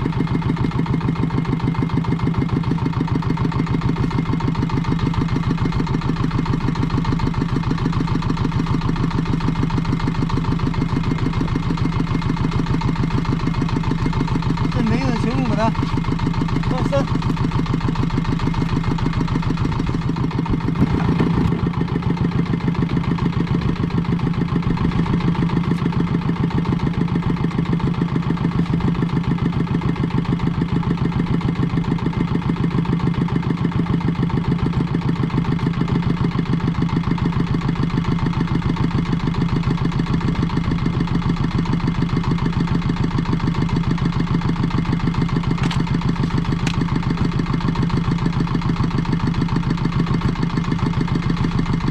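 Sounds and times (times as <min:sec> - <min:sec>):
boat engine chugging: 0:00.0 - 0:51.9.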